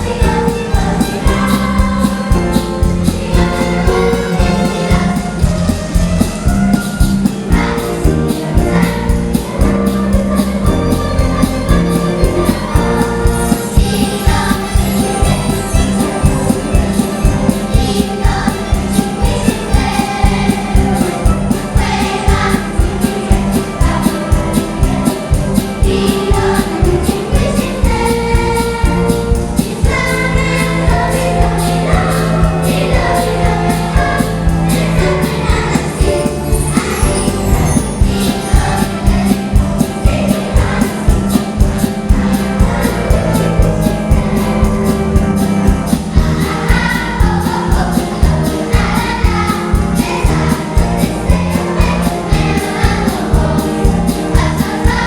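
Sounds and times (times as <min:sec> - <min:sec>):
group singing: 0:00.0 - 0:05.6, 0:07.4 - 0:55.0
live band music: 0:00.0 - 0:55.0.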